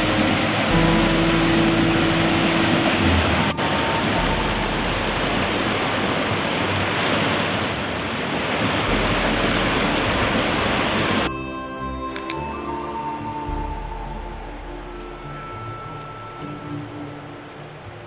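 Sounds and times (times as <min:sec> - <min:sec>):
background music: 0:00.0 - 0:18.0
waterfall rushing: 0:00.0 - 0:18.0.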